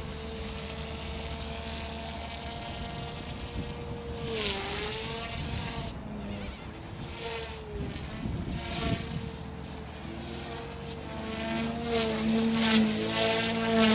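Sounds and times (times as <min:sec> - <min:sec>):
rc helicopter buzzing whine: 0:00.0 - 0:13.9.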